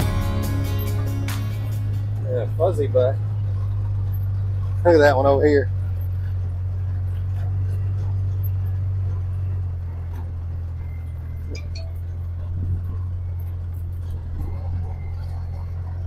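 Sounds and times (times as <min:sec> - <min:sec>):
utility vehicle engine droning: 0:00.0 - 0:16.0.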